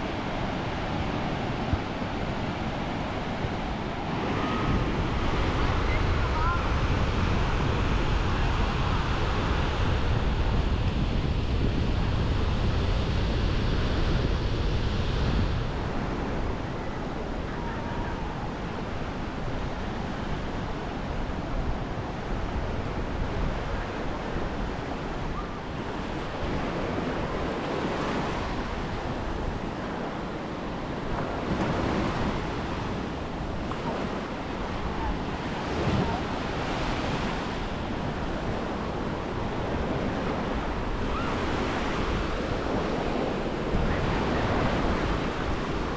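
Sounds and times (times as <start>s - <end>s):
waves breaking on beach: 0.0s - 45.9s
wind rumble on microphone: 0.0s - 45.9s.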